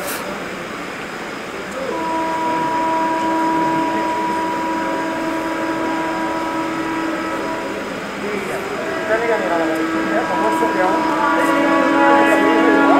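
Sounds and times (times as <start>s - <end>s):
locomotive horn blast: 1.7s - 12.9s.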